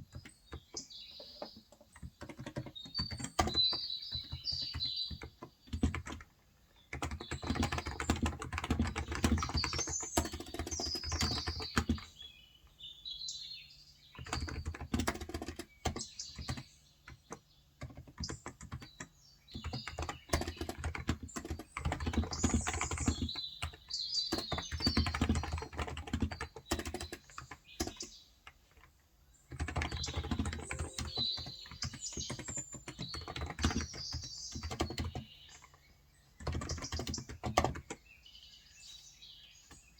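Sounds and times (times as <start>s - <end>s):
typing on a keyboard: 0.0s - 12.2s, 14.1s - 38.1s
small birds chirping: 0.0s - 39.9s.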